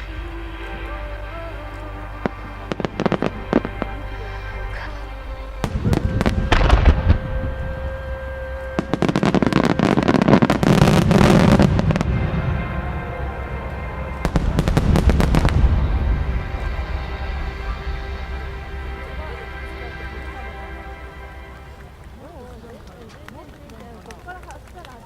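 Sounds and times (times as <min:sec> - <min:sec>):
fireworks bursting: 0:00.0 - 0:23.5
music with held tones: 0:00.0 - 0:25.0.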